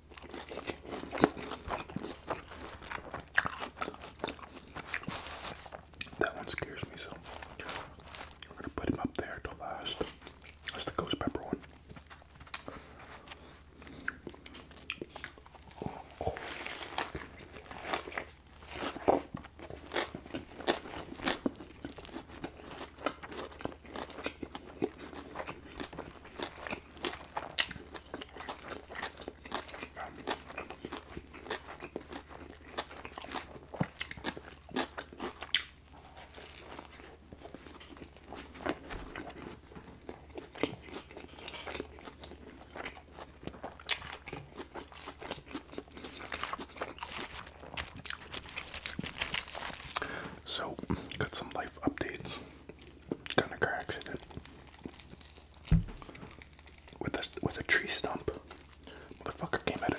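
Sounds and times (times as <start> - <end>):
crunchy fried breading bites: 0.0 - 8.9, 11.8 - 59.9
wet chewing: 0.1 - 59.9.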